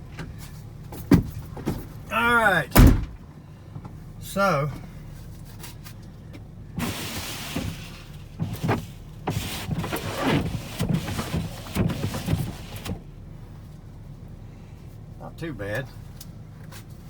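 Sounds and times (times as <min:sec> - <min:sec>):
vehicle engine idling: 0:00.0 - 0:09.7, 0:12.5 - 0:17.0.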